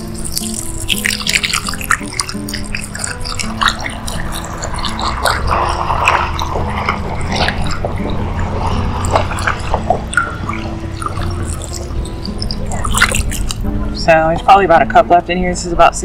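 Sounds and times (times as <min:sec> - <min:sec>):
broth pouring into pan: 0:00.0 - 0:13.7.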